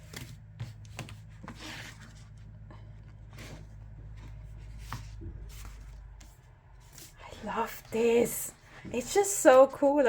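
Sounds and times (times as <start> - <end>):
steady low hum: 0.0 - 9.6
paper pages rustling: 0.0 - 9.8.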